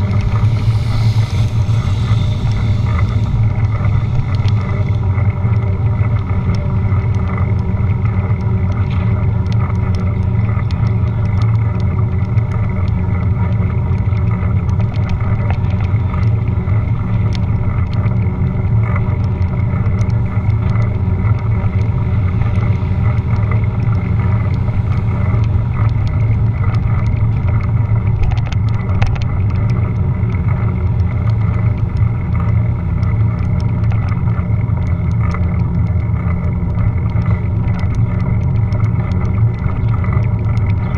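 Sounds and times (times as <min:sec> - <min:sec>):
faint clicks and rattles: 0:00.0 - 0:40.9
wind and road rumble: 0:00.0 - 0:40.9.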